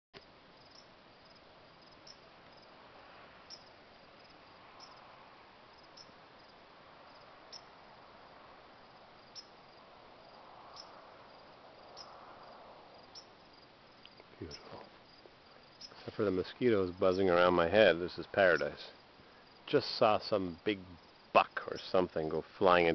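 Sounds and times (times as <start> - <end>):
crickets chirping: 0.2 - 22.9.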